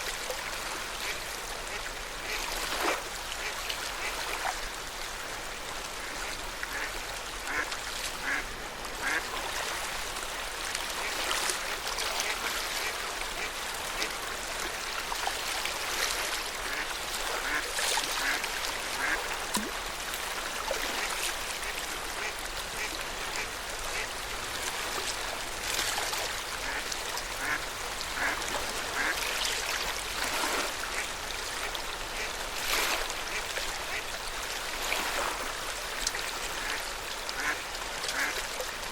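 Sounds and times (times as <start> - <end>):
water lapping on shore: 0.0 - 38.9.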